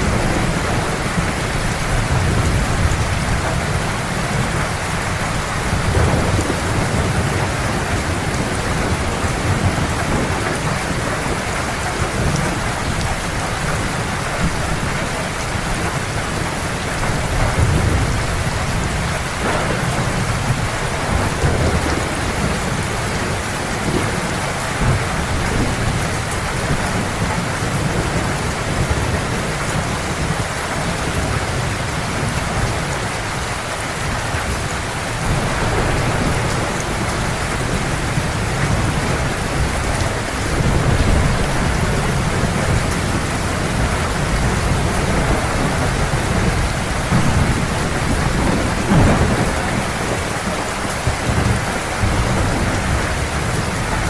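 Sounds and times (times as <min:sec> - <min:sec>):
heavy rain falling: 0:00.0 - 0:54.0
rolling thunder: 0:00.0 - 0:54.0.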